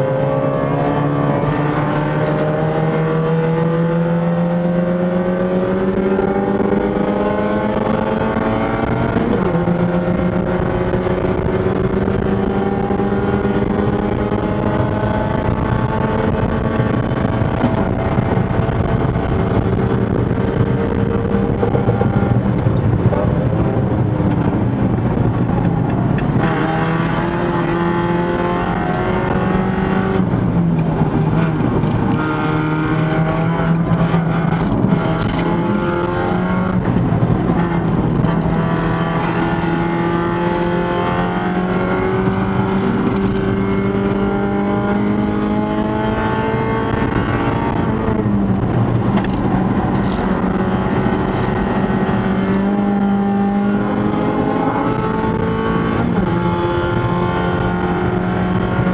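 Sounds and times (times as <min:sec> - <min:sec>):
race car engine under load: 0:00.0 - 0:58.9.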